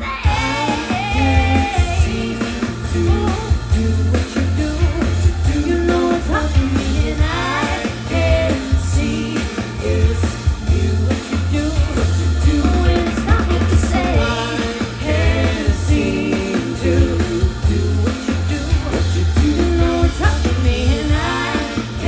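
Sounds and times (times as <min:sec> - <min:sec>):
drums: 0:00.0 - 0:22.0
heavy bass line: 0:00.0 - 0:22.0
person singing: 0:00.0 - 0:22.0.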